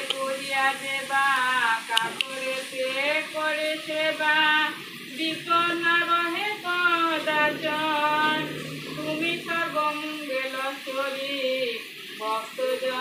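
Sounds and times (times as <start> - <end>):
woman singing a devotional chant: 0.0 - 13.0.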